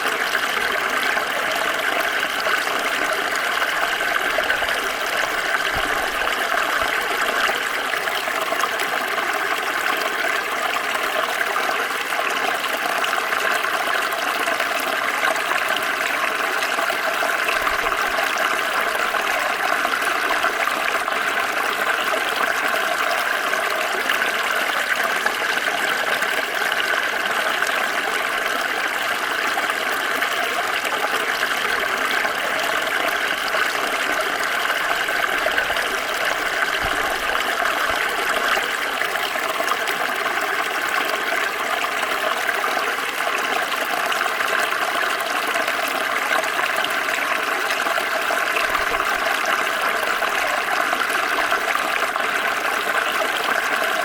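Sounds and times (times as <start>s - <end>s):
stream water flowing over rocks: 0.0s - 54.0s.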